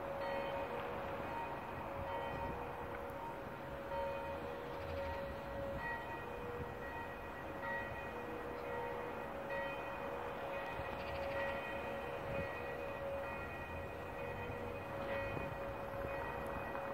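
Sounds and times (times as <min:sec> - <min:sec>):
church bells ringing: 0:00.0 - 0:16.9.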